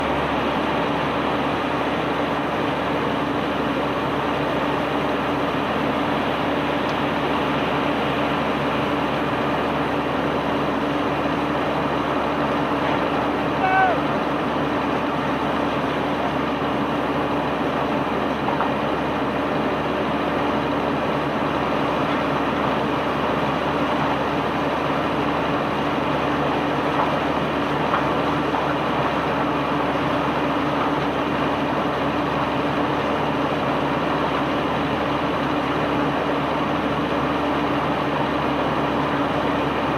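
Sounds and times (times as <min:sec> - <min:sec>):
machinery engine hum: 0:00.0 - 0:39.9.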